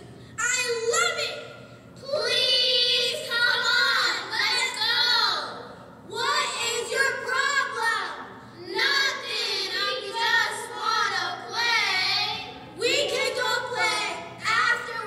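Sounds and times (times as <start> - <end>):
girls singing together: 2.1 - 15.0.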